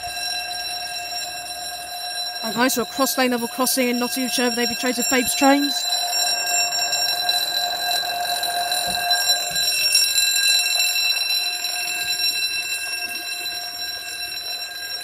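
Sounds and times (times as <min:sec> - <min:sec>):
level crossing alarm tone: 0:00.0 - 0:15.0.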